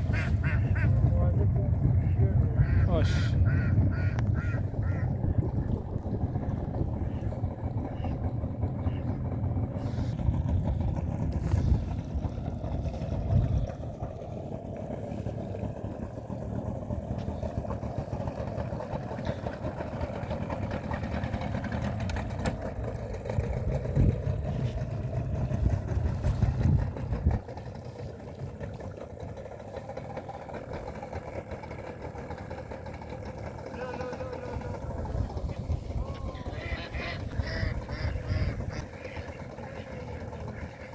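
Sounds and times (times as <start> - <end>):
motorboat engine rumbling: 0.0 - 40.9.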